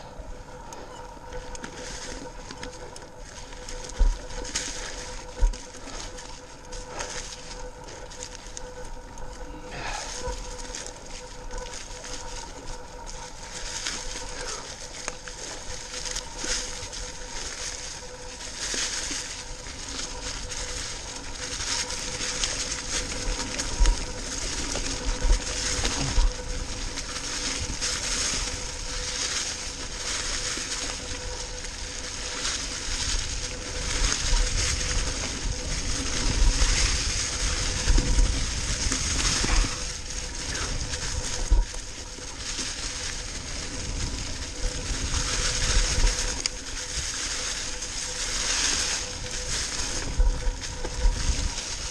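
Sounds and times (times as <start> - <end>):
bike tyres crunching through leaves: 0.0 - 51.9.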